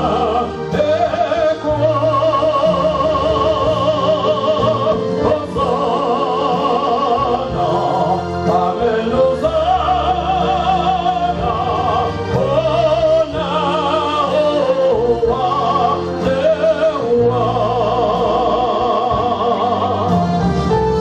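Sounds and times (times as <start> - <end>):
man singing gospel song: 0.0 - 20.4
sustained instrumental accompaniment: 0.0 - 21.0.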